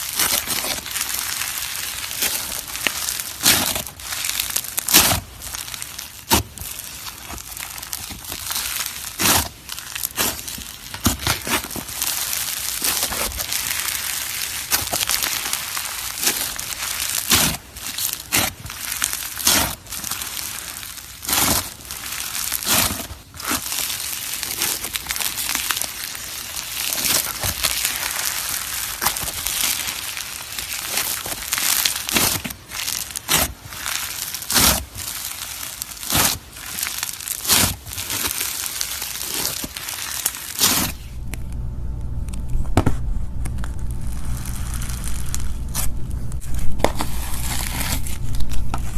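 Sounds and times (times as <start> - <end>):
slime squished and crunching: 0.0 - 41.4, 42.3 - 48.9.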